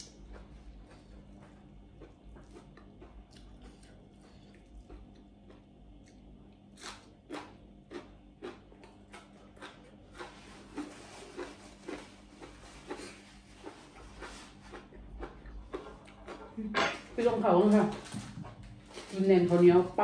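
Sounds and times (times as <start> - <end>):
chewing food: 0.0 - 19.6.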